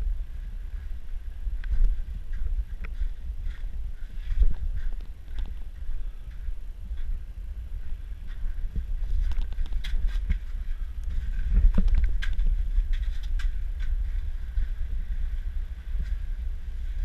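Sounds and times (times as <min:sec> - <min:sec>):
low microphone rumble: 0:00.0 - 0:17.0.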